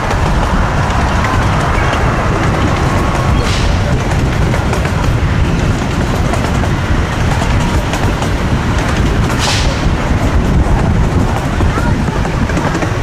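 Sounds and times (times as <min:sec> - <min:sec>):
small train rumbling on track: 0:00.0 - 0:13.0.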